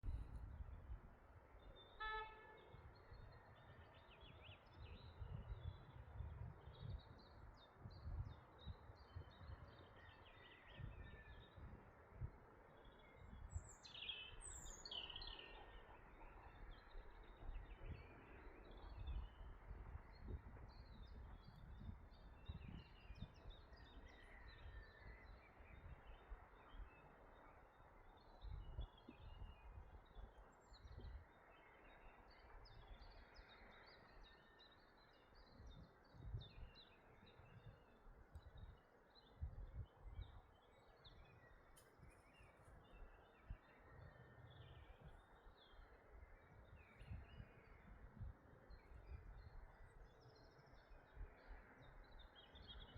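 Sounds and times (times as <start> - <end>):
songbirds chirping: 1.4 - 52.9.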